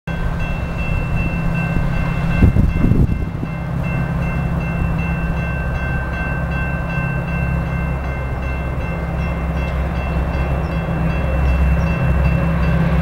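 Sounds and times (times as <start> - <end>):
high-pitched ringing: 0.1 - 12.9
diesel train rumbling: 0.1 - 13.0.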